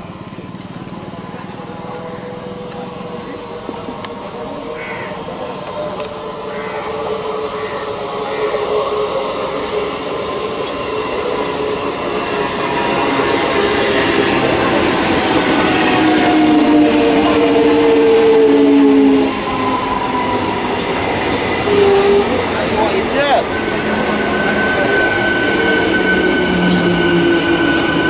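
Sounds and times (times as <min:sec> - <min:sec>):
electric train steady tones: 0:00.0 - 0:28.0
wheels rumbling on rail: 0:00.0 - 0:28.0.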